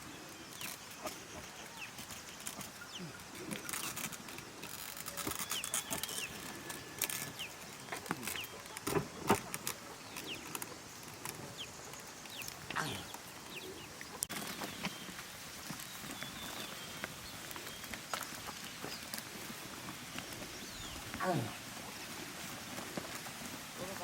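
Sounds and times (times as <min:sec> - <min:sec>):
birds chirping: 0:00.0 - 0:22.7.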